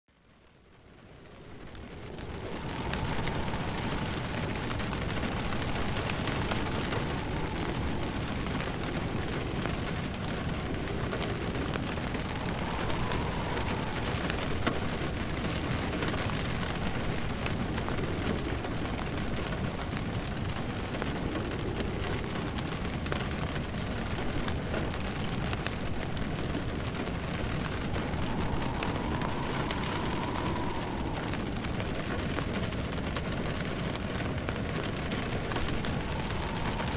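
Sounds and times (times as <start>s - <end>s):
faint wind: 0.1s - 36.9s
rain pattering: 0.1s - 36.9s
wood fire crackling: 0.4s - 36.9s.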